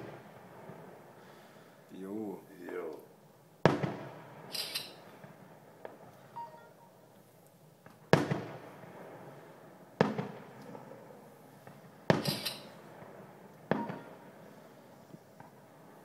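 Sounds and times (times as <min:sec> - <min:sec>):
fireworks bangs: 0:00.0 - 0:02.9, 0:03.6 - 0:06.3, 0:07.8 - 0:16.0
fireworks crackle: 0:00.0 - 0:06.4, 0:07.2 - 0:16.0.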